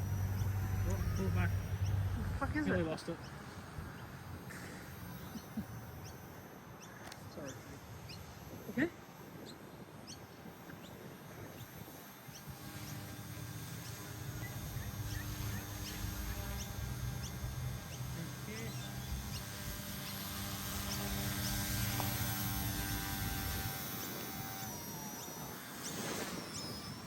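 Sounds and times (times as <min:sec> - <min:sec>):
toy helicopter motors whining: 0:00.0 - 0:27.0.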